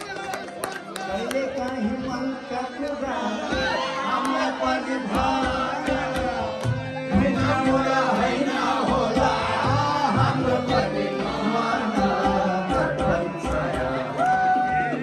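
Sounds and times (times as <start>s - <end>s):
harmonium chords: 0.0s - 15.0s
man singing into a microphone: 1.1s - 15.0s.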